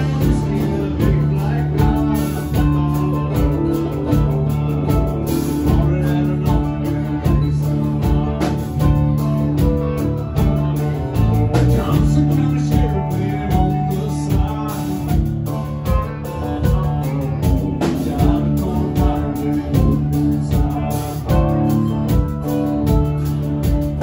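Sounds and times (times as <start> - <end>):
drum kit beat: 0.0 - 24.0
electric guitars: 0.0 - 24.0.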